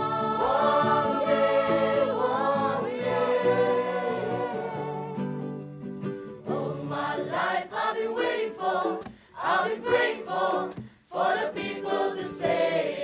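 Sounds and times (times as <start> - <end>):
mixed choir singing: 0.0 - 5.7, 6.4 - 13.0.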